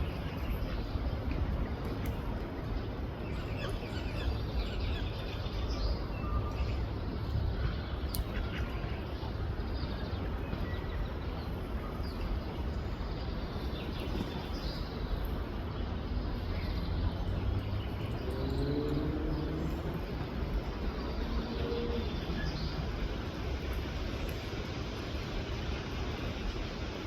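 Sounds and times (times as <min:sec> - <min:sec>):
outdoor background rumble: 0:00.0 - 0:27.0.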